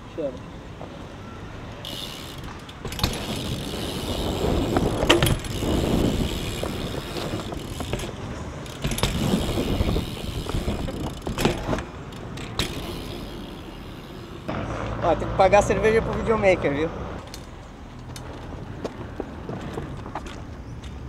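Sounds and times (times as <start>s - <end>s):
bike tyres rolling on concrete: 1.8s - 21.0s.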